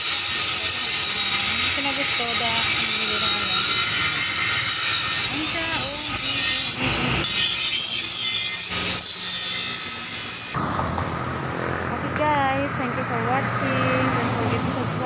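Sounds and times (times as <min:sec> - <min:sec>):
grinding wheel grinding steel: 0:00.0 - 0:15.0.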